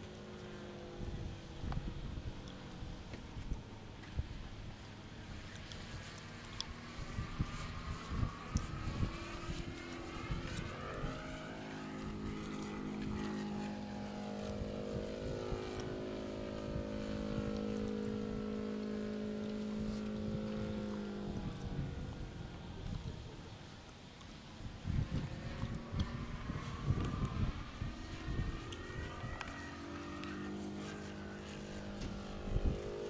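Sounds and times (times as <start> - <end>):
model airplane motor humming: 0.0 - 33.0
wind buffeting microphone: 1.0 - 23.8, 24.6 - 33.0.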